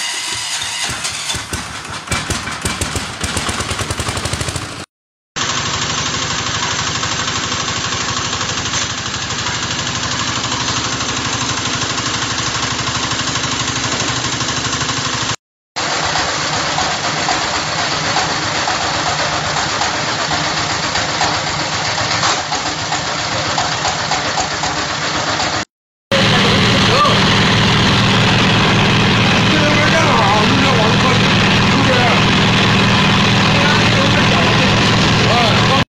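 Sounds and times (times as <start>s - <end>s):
diesel engine chugging: 1.2s - 35.8s.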